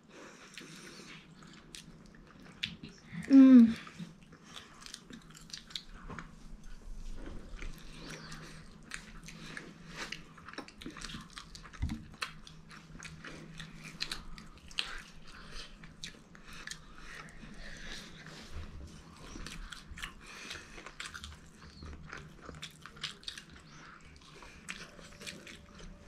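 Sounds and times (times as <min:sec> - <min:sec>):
chewing crispy fried chicken: 0:00.1 - 0:26.0.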